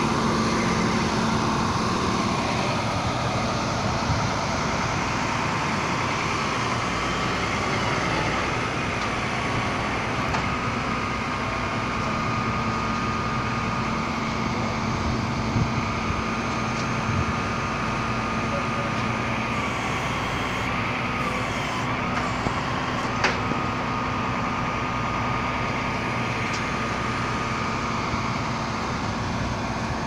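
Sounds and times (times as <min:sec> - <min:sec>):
idling engines and traffic hum: 0:00.0 - 0:30.0.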